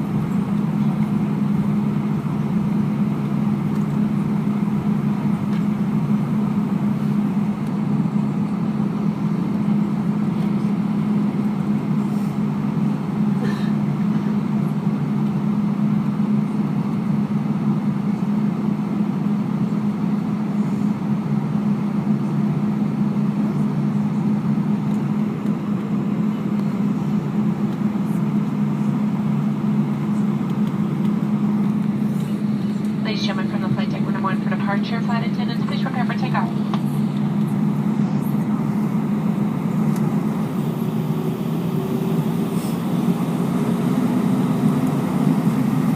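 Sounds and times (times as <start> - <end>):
airliner cabin drone: 0.0 - 45.9.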